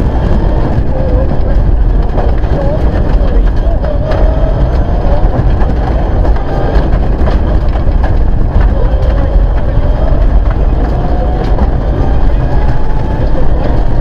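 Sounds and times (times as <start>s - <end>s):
car engine accelerating hard: 0.0s - 14.0s
gravel rattling against underbody: 0.0s - 14.0s
road rumble: 0.0s - 14.0s.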